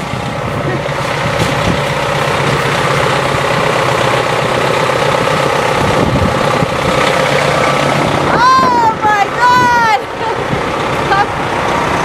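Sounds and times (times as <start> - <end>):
street traffic noise: 0.0 - 12.0
vehicle engine running: 0.0 - 12.0.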